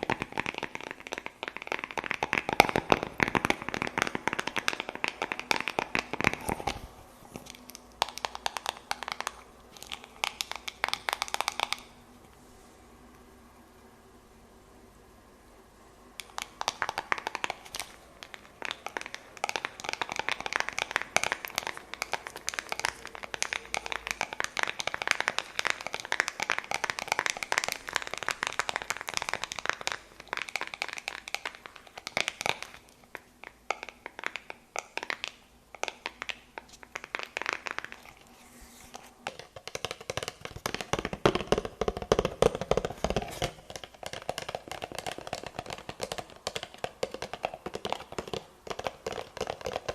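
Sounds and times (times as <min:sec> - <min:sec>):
crisp tapping: 0:00.0 - 0:12.0, 0:16.2 - 0:49.9.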